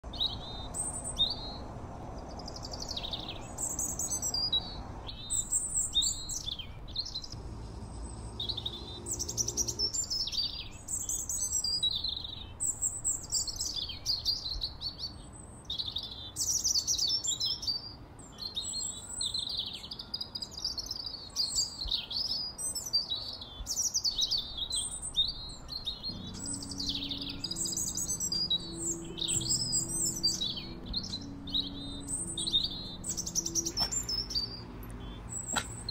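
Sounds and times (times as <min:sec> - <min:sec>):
songbirds chirping and singing: 0:00.0 - 0:35.9.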